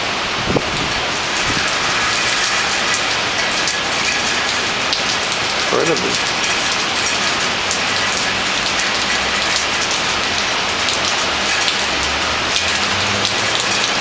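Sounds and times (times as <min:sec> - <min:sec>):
heavy rain downpour: 0:00.0 - 0:14.0
raindrops ticking close by: 0:00.0 - 0:14.0.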